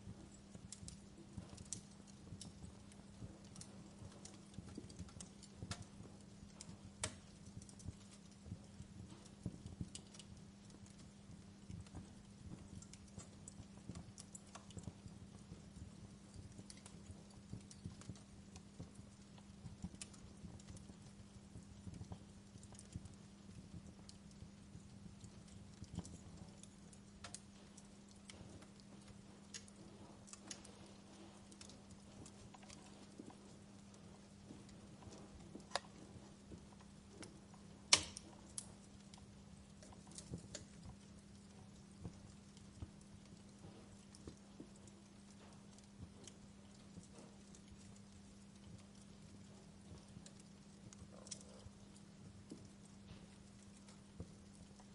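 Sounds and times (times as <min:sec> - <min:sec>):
low steady hum: 0:00.0 - 0:54.9
wood fire crackling: 0:00.0 - 0:54.9.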